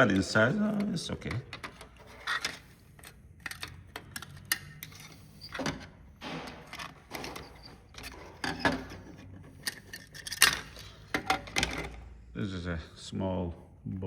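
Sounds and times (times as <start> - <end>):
plastic scraping: 0.0 - 12.1.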